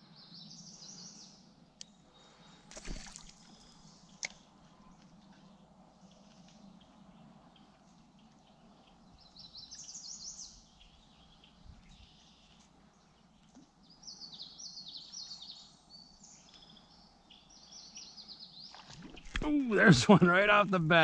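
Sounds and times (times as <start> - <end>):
songbirds singing: 0.0 - 19.8.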